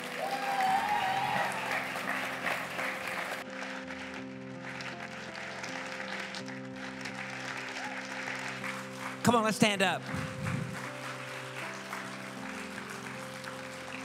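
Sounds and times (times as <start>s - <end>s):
congregation applauding: 0.0s - 14.0s
keyboard chords: 0.0s - 14.0s.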